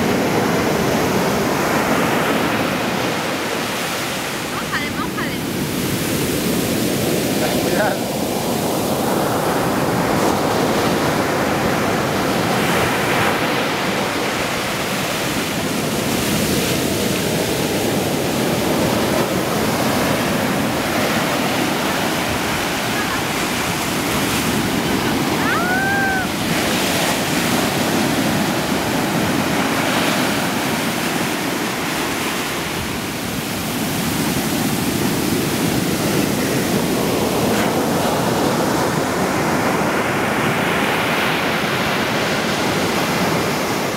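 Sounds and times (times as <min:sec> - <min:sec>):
ocean waves breaking on sand: 0:00.0 - 0:43.9.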